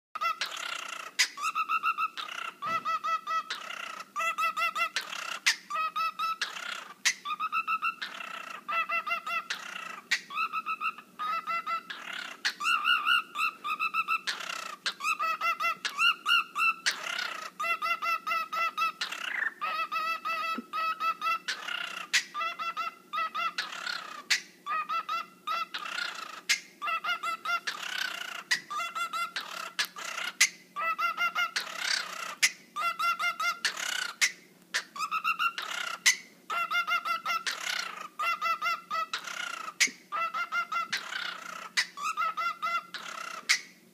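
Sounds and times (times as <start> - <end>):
cockatiel screeching: 0.2 - 43.7
cockatiel whistling: 0.2 - 43.7.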